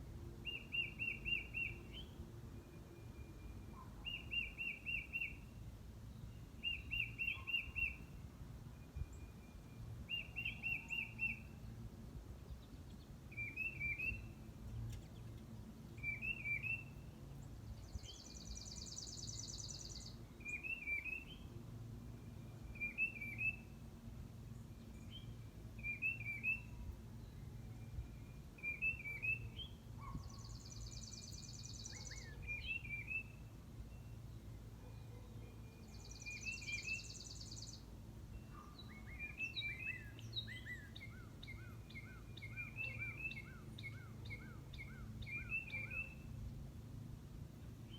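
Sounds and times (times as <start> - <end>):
songbird chirped phrase: 0.4 - 47.0.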